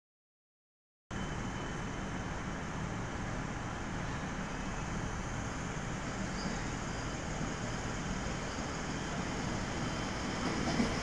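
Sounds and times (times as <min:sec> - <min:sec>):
electric train rumble: 0:01.1 - 0:11.0.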